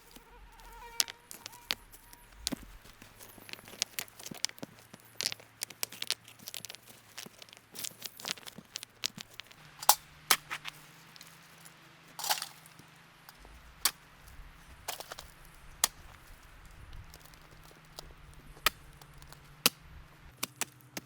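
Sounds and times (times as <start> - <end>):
sticks snapping and crackling: 0.0 - 21.0.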